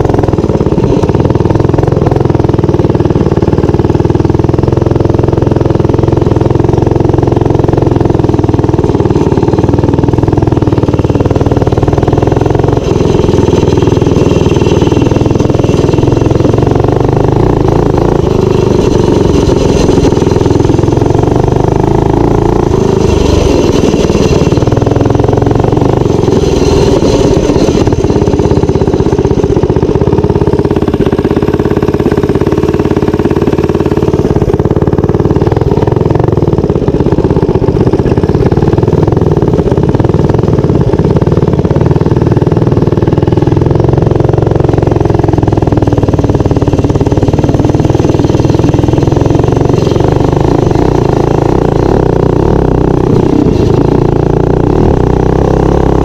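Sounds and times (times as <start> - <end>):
minibike engine running: 0.0 - 56.0.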